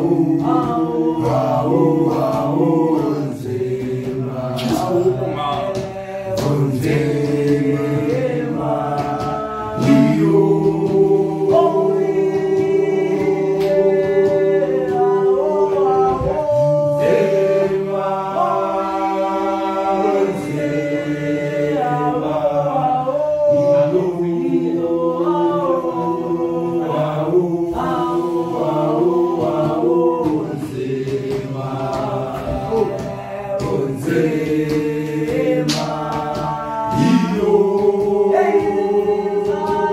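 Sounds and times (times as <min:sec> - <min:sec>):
men singing in harmony: 0:00.0 - 0:39.9.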